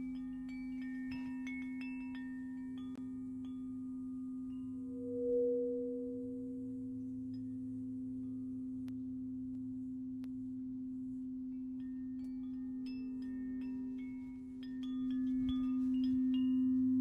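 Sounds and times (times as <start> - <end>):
higher singing bowl tone: 0.0 - 17.0
singing bowl low drone: 0.0 - 17.0.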